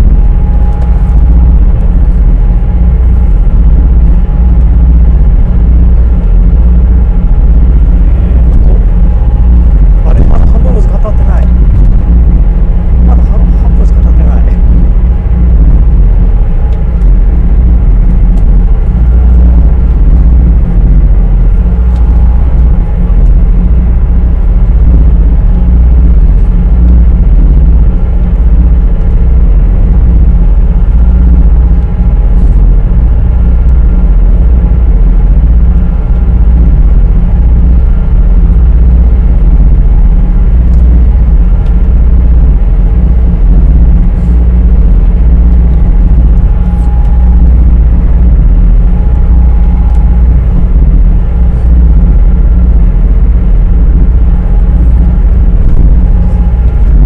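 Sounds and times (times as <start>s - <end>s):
boat engines rumbling: 0.0s - 57.0s
faint steady tones: 0.0s - 57.0s.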